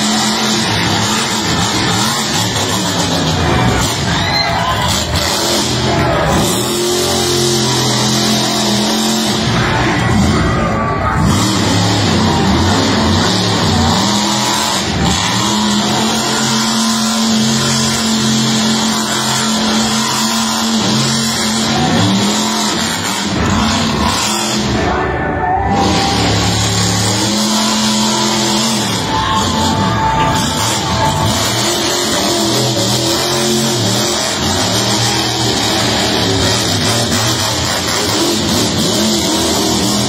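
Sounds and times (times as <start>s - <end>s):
monster truck engine running: 0.0s - 40.0s.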